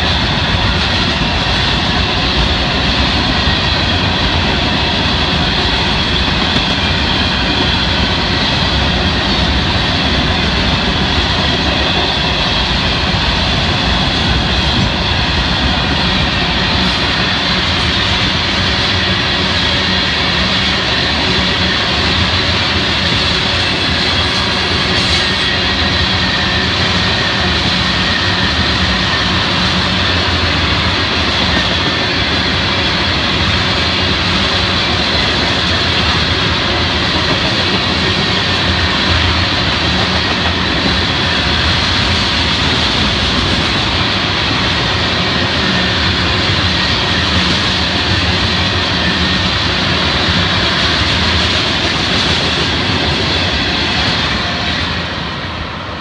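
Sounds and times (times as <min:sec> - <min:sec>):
train wheels clattering on rail: 0:00.0 - 0:56.0.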